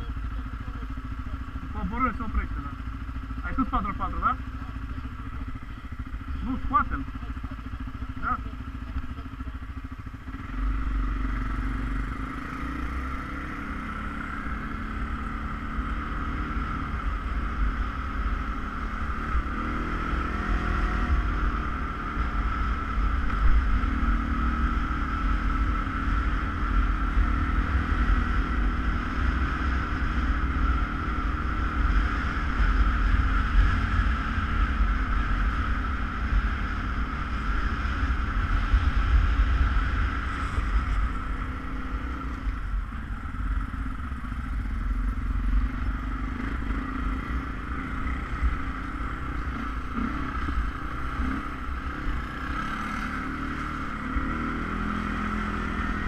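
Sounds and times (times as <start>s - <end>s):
atv engine rumbling: 0.0s - 56.0s.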